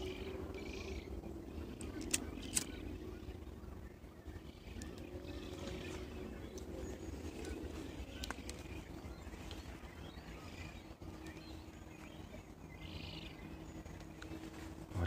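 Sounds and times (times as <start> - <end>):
bird calls: 0.0 - 15.0
steady low rumble: 0.0 - 15.0.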